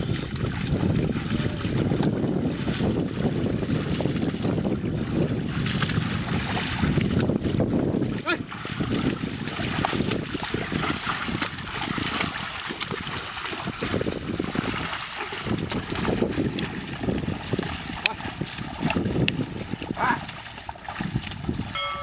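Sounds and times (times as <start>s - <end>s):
bullocks splashing through mud: 0.0s - 22.0s
water and mud squelching: 0.0s - 22.0s.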